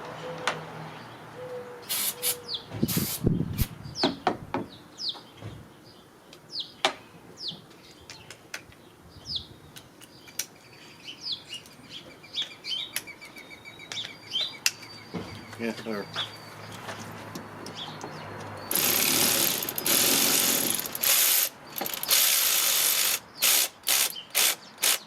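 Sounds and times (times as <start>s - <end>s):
bird chirping: 0.2s - 6.8s, 7.4s - 25.0s.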